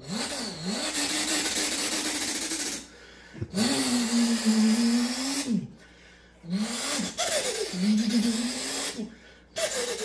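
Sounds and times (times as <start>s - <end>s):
man imitating engine by mouth: 0.0s - 5.8s, 6.4s - 10.0s.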